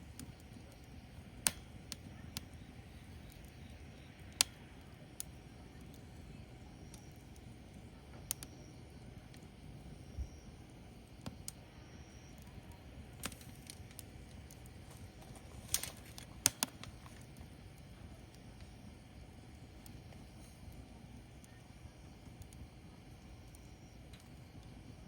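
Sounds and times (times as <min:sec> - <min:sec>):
firewood crackling and popping: 0:00.0 - 0:25.0
low rumble of fire: 0:00.0 - 0:25.0.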